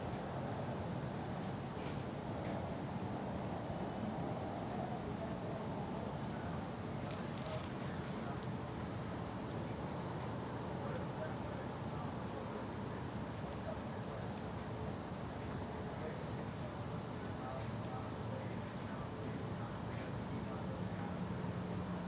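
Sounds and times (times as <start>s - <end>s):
cricket chirping: 0.0s - 22.0s
low background hiss: 0.0s - 22.0s.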